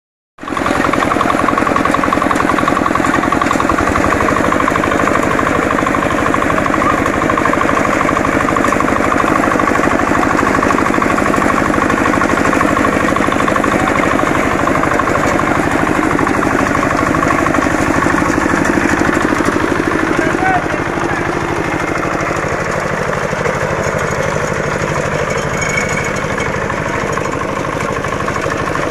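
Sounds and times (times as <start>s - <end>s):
small engine running under load: 0.4s - 28.9s.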